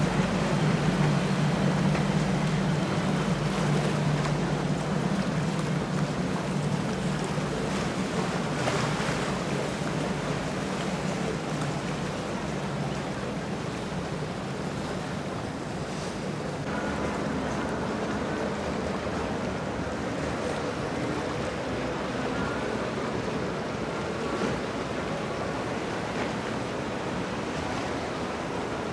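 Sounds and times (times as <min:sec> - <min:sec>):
boat engine drone: 0:00.0 - 0:28.9
water wash: 0:00.0 - 0:28.9.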